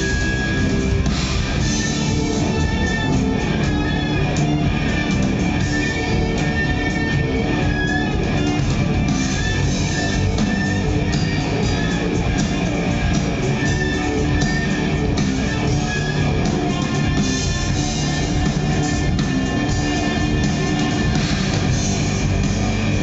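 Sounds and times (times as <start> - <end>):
bass guitar: 0.0 - 23.0
drum kit and cymbals: 0.0 - 23.0
electric guitar: 0.0 - 23.0.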